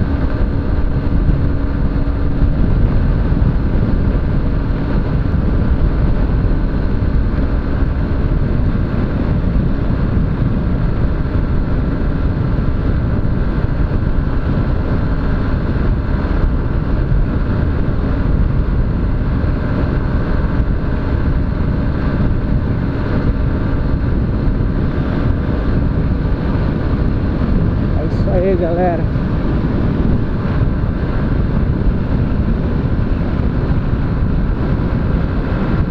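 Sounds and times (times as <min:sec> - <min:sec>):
motorcycle engine running: 0:00.0 - 0:35.9
wind rumble on microphone: 0:00.0 - 0:35.9.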